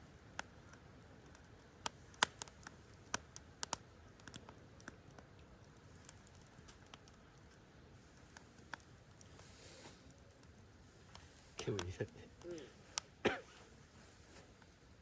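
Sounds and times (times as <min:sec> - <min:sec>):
campfire crackling: 0:00.0 - 0:15.0
faint steady background: 0:00.0 - 0:15.0.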